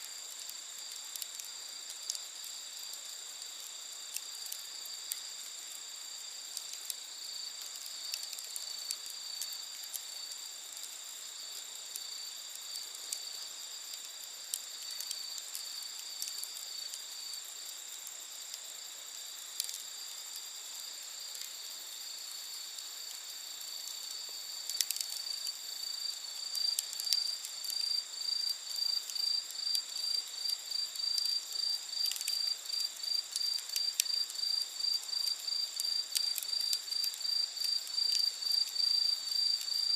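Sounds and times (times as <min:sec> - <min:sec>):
crickets trilling: 0:00.0 - 0:39.9
campfire popping: 0:00.1 - 0:39.9.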